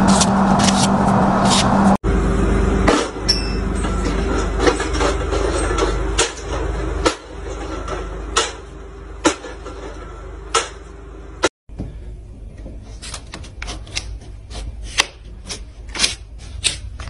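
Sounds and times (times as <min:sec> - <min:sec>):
machine engine rumble: 0:00.0 - 0:17.0.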